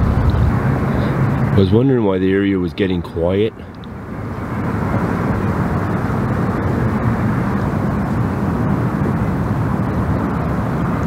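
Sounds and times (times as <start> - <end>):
distant engine rumble: 0.0 - 11.0.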